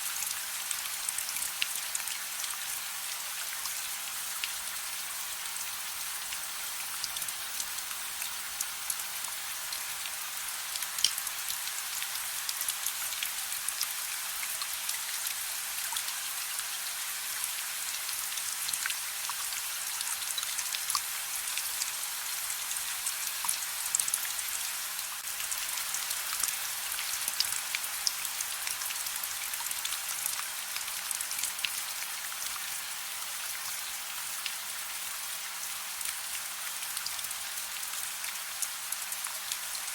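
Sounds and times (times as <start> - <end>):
soft rain hiss: 0.0 - 39.9.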